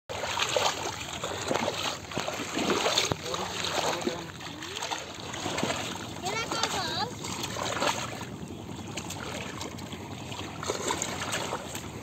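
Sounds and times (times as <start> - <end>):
wading through shallow water: 0.1 - 12.0.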